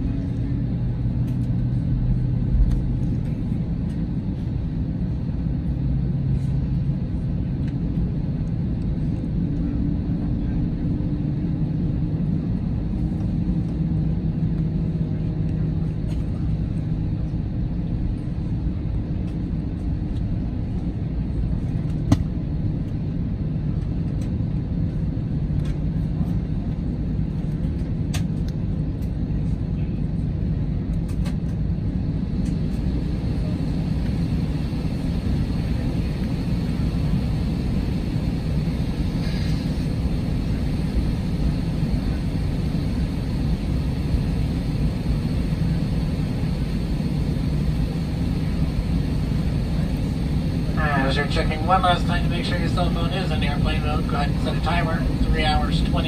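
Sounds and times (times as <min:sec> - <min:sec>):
airliner cabin ventilation hum: 0:00.0 - 0:56.0.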